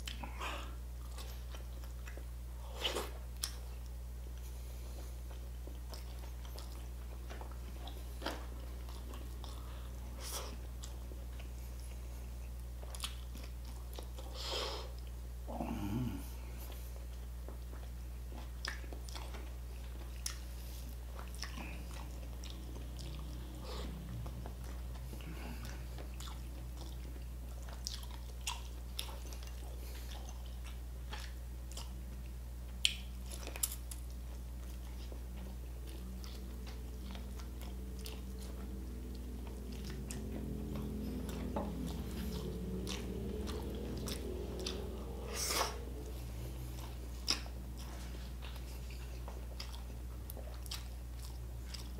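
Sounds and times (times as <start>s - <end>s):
chewing and crunching: 0.0s - 15.2s, 16.2s - 51.9s
steady low hum: 0.0s - 51.9s.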